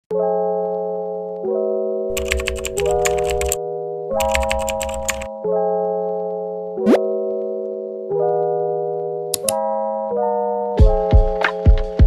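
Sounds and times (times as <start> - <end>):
sustained keyboard chords: 0.1 - 12.0.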